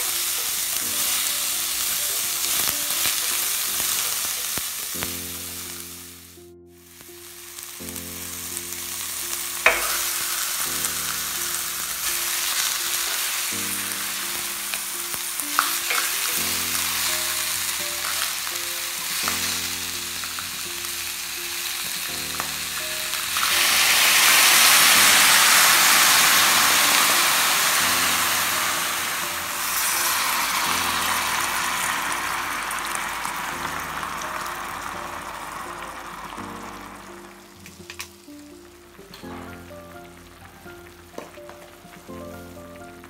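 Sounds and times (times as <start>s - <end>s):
onions and meat sizzling in a pan: 0.0s - 43.0s.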